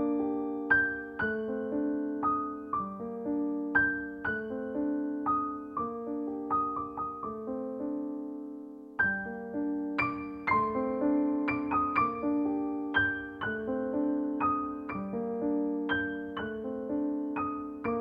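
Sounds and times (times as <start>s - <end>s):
soft slow piano melody: 0.0s - 18.0s.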